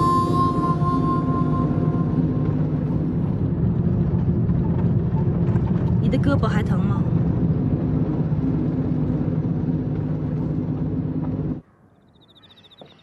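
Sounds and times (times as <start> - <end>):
vehicle engine running: 0.0 - 11.6.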